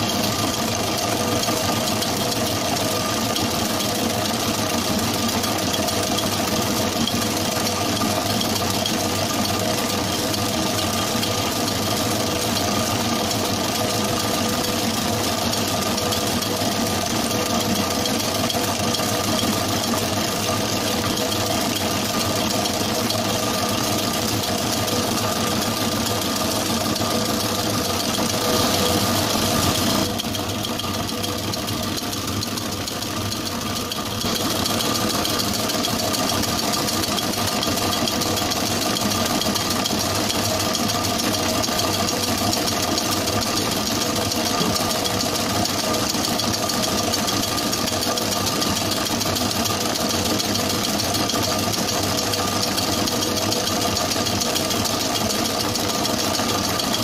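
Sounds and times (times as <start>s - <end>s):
planetary mixer humming: 0.0s - 57.0s.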